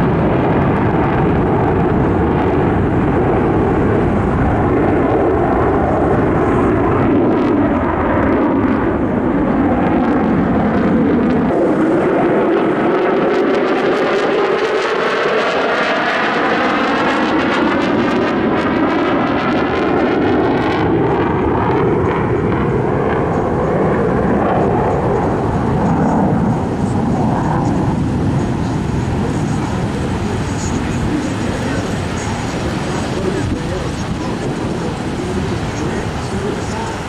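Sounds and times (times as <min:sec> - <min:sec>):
aircraft engine flying past: 0:00.0 - 0:37.0.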